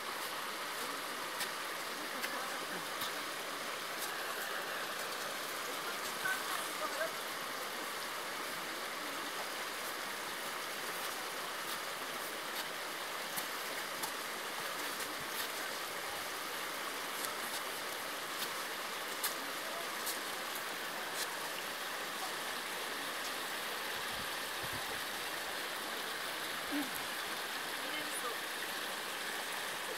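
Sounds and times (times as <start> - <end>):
stream running over rocks: 0.0 - 29.9.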